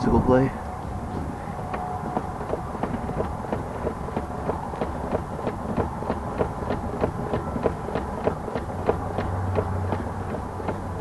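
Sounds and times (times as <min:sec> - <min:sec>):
car engine humming with ticking: 0:00.6 - 0:11.0.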